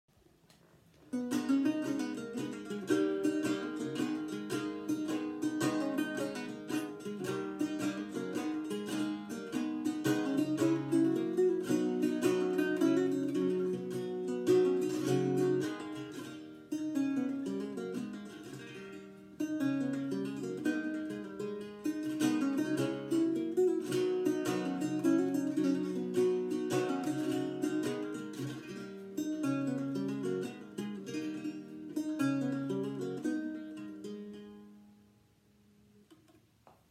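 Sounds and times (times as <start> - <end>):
solo guitar plucked notes: 1.1 - 35.2.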